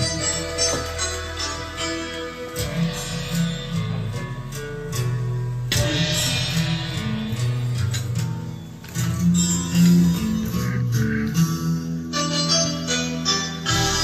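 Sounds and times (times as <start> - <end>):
instrumental backing track with guitar: 0.0 - 14.0.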